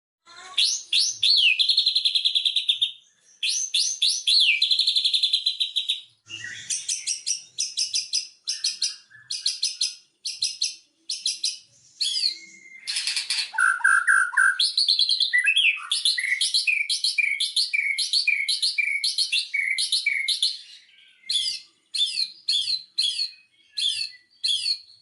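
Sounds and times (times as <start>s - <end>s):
bird singing trills and chatter: 0.3s - 25.0s.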